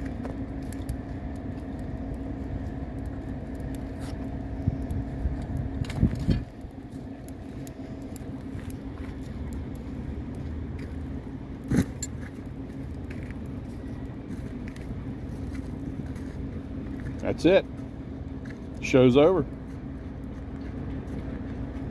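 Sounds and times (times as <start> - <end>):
engine idling: 0.0 - 21.9.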